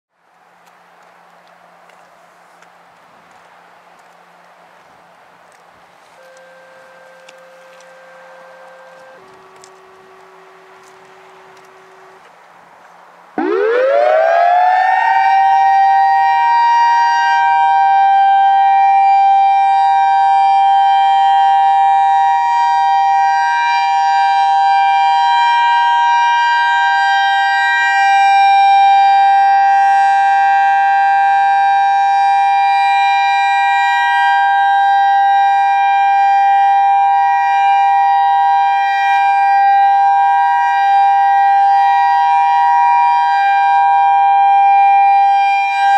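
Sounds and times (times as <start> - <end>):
outdoor warning siren: 6.0 - 12.4, 13.4 - 45.9.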